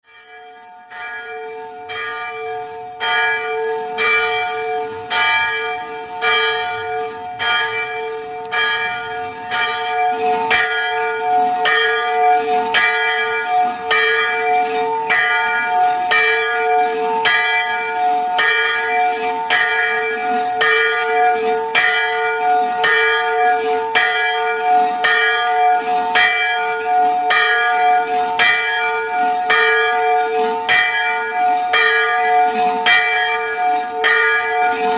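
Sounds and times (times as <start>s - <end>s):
church bell ringing: 0.0s - 34.9s.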